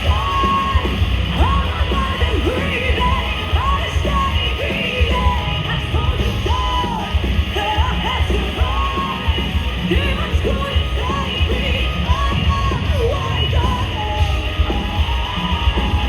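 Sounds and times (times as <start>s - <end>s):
hard rock band playing: 0.0s - 16.0s.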